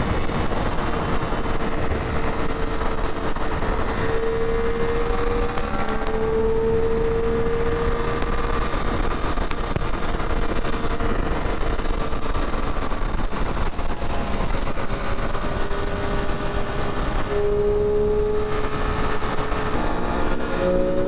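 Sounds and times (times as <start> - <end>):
motorcycle engine cruising: 0.0 - 21.0
wind rush: 0.0 - 21.0.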